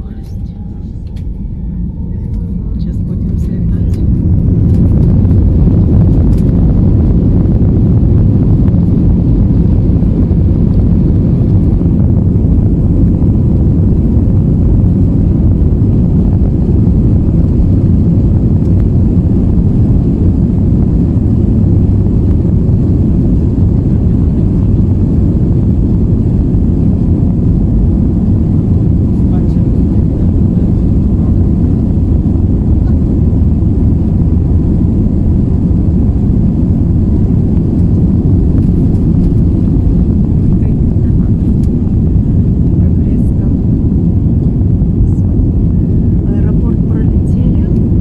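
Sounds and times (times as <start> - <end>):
airliner engines and wheels rumbling: 0.0 - 48.0.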